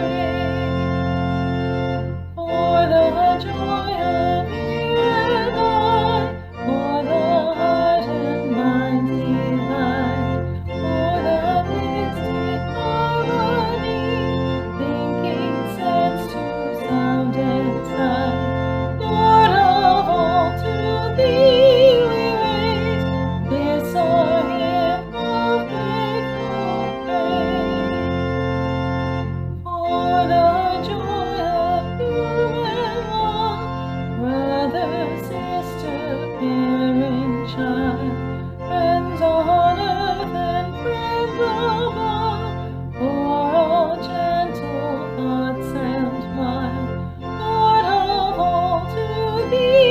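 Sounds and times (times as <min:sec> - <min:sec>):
sustained organ accompaniment: 0:00.0 - 0:49.9.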